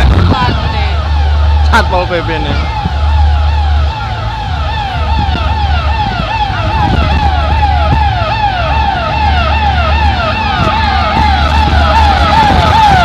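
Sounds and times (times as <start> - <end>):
deep low hum pulsing: 0.0 - 13.0
electronic siren yelping: 0.0 - 13.0.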